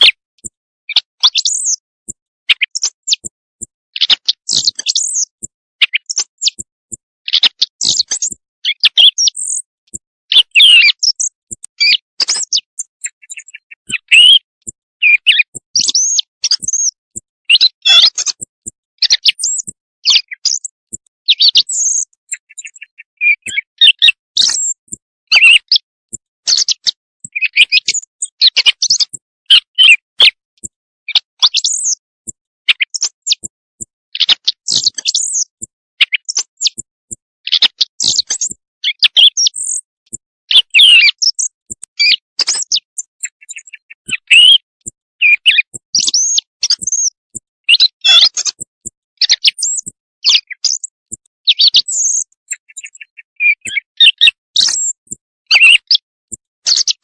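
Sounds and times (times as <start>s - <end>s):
high-pitched bird chirping: 0.0s - 30.4s, 31.1s - 36.9s, 37.5s - 56.1s.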